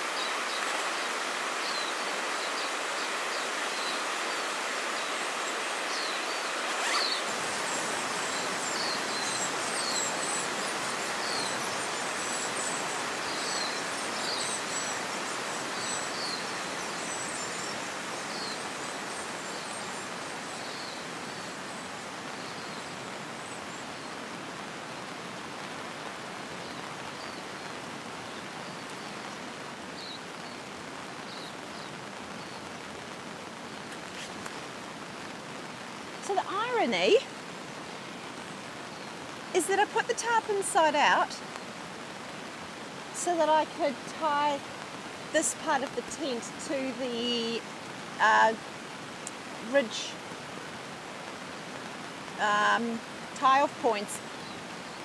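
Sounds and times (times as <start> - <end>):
small birds chirping: 0.0 - 25.4, 26.0 - 55.0
river flowing: 0.0 - 55.0.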